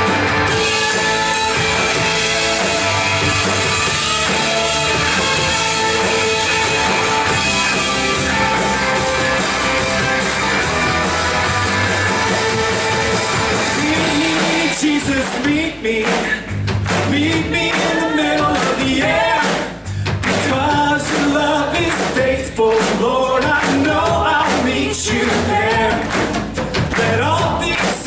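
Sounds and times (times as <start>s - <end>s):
band playing instrumental music: 0.0s - 28.0s.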